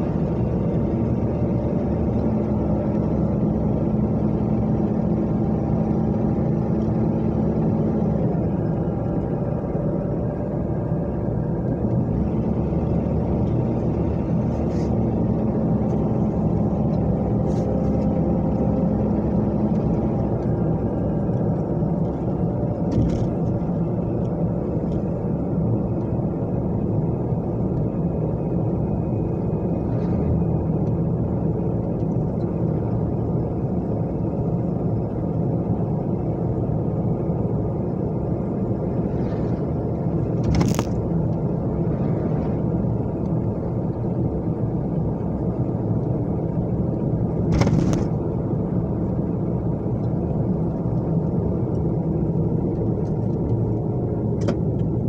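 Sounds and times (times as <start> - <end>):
car road and engine noise: 0.0 - 55.0.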